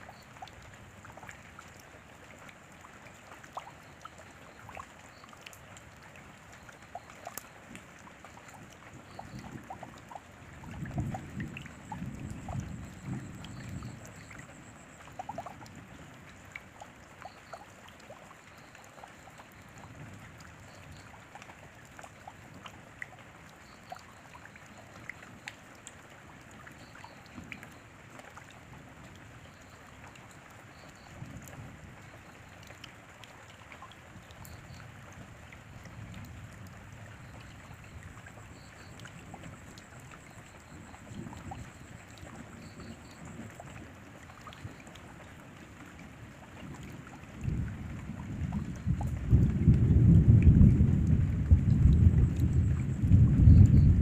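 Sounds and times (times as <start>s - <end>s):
raindrops ticking: 0.0s - 54.0s
steady rain: 0.0s - 54.0s.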